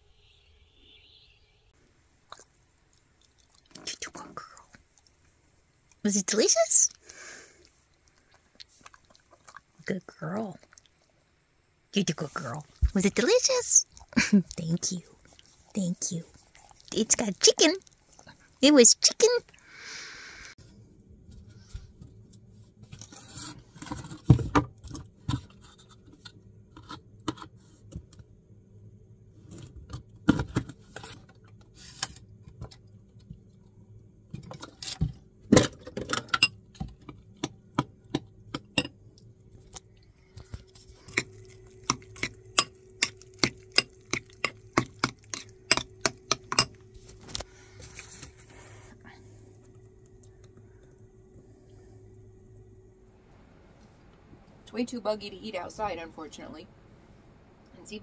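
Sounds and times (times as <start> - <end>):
steady low hum: 1.8 - 58.0.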